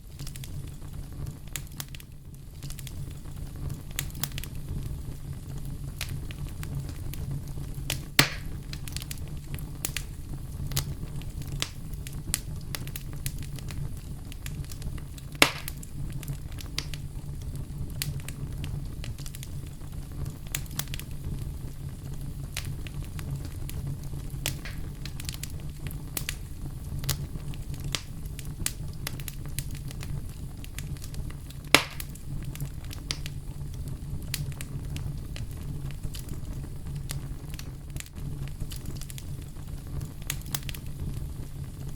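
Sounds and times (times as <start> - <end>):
burning wood popping: 0.0 - 41.9
campfire crackling: 0.0 - 41.9.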